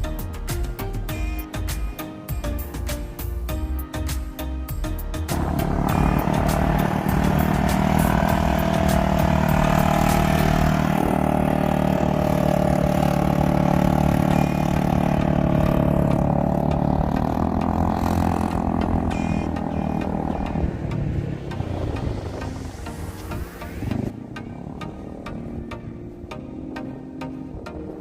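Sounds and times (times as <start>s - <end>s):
engine running steadily: 5.0s - 28.0s.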